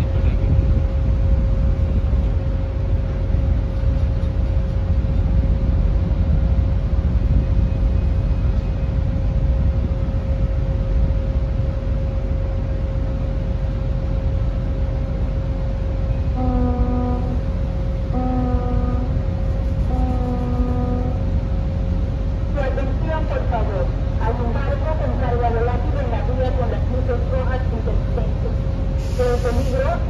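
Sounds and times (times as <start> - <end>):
constant hum: 0.0 - 30.0
machinery rumble: 0.0 - 30.0
wind: 0.0 - 30.0.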